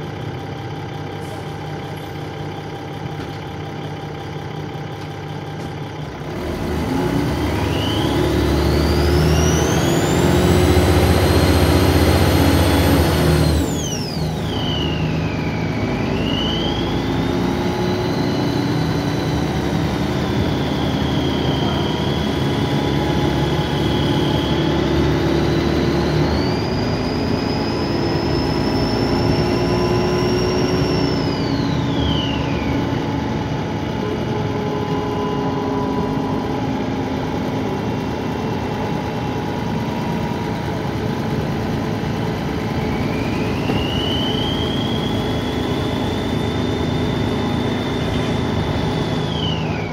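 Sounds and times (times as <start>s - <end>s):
bus diesel engine rumble: 0.0s - 49.9s
turbocharger whine: 0.0s - 49.9s.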